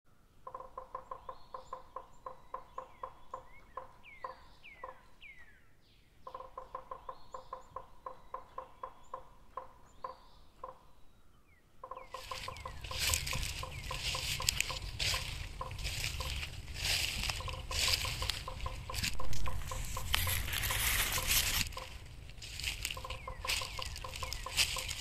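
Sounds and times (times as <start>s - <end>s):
bird-like clucking pulses: 0.4s - 5.5s, 6.2s - 11.0s, 11.8s - 25.0s.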